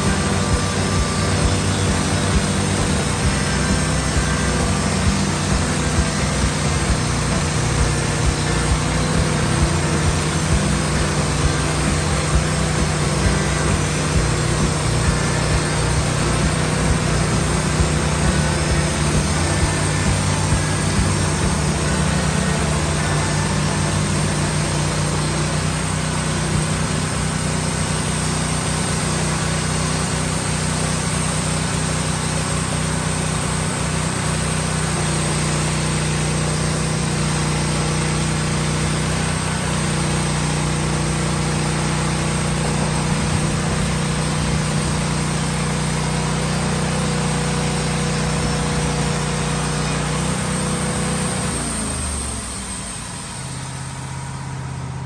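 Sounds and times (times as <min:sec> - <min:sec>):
saw blade hissing: 0:00.0 - 0:55.0
sawmill engine running: 0:00.0 - 0:55.0.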